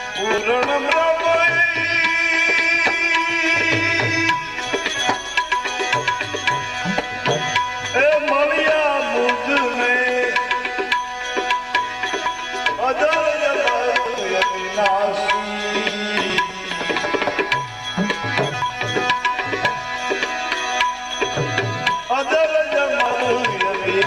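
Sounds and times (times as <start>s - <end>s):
held accompanying tones: 0.0s - 24.0s
tabla rhythm: 0.0s - 24.0s.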